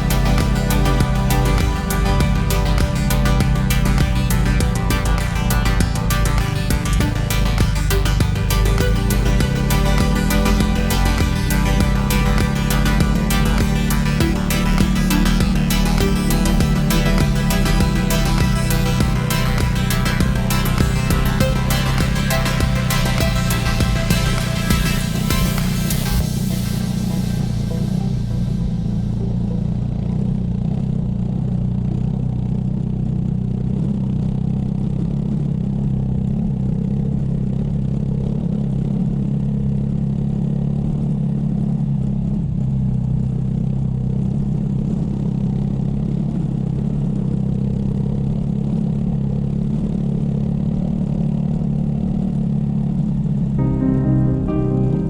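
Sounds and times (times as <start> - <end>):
motorcycle engine running: 0.0 - 27.0, 27.6 - 53.6.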